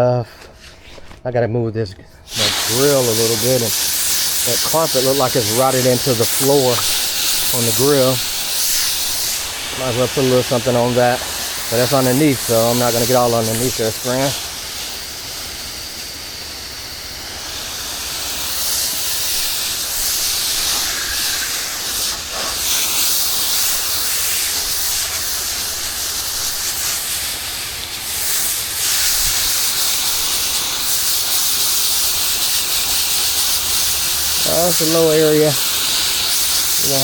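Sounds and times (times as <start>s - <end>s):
pressure washer spray hissing: 2.3s - 37.0s.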